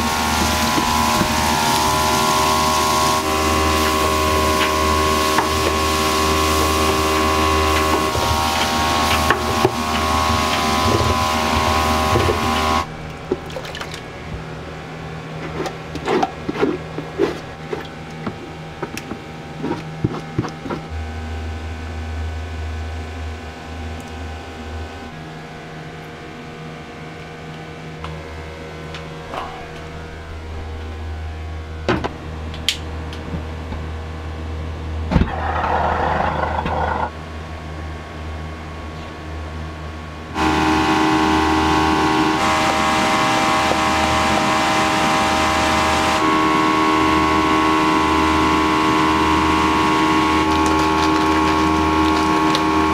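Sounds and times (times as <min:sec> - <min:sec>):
mechanical hum: 0:00.0 - 0:52.9.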